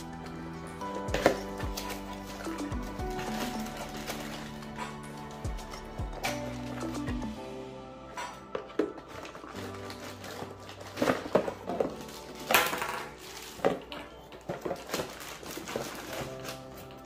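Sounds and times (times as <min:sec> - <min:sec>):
plastic bags rustling and crinkling: 0:00.0 - 0:07.4, 0:08.0 - 0:17.0
background music: 0:00.0 - 0:17.0.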